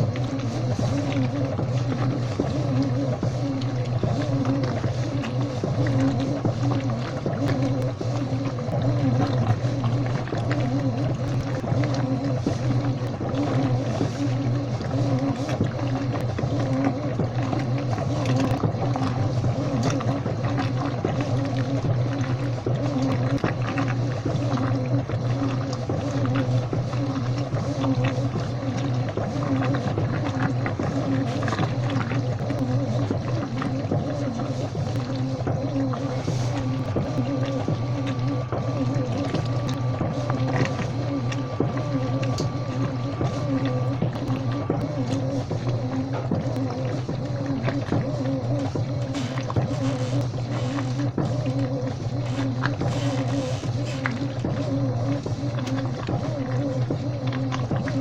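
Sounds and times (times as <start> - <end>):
washing machine motor hum: 0.0 - 58.0
wavering whine: 0.0 - 58.0.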